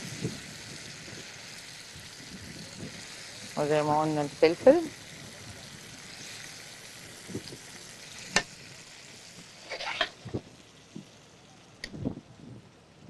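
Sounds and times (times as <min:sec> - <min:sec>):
food sizzling in a frying pan: 0:00.0 - 0:12.2.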